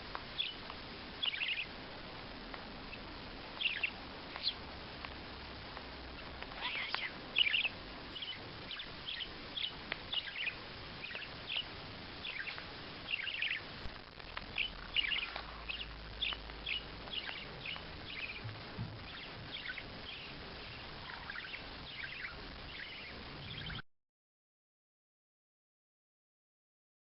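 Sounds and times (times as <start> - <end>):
faint steady hiss: 0.0 - 23.8
small birds chirping: 0.0 - 23.8.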